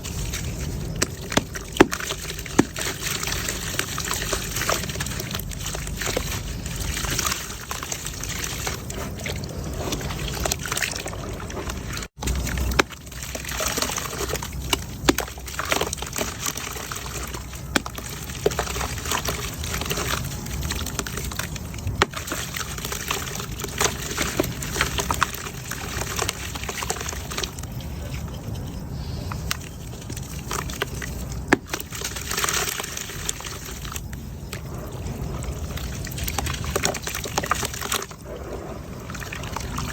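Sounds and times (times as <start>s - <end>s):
wet mud crumbling in water: 0.0s - 39.9s.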